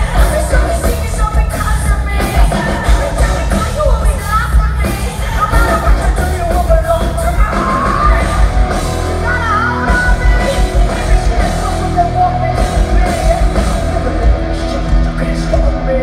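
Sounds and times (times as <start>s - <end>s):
live heavy metal band: 0.0s - 16.0s.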